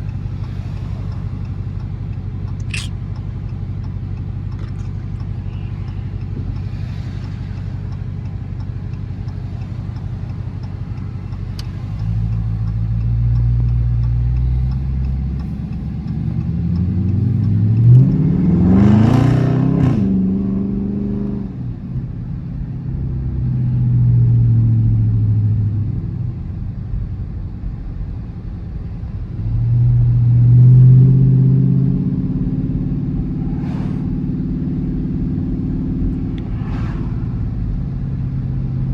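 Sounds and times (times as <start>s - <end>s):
car engine and exhaust revving: 0.0s - 38.9s.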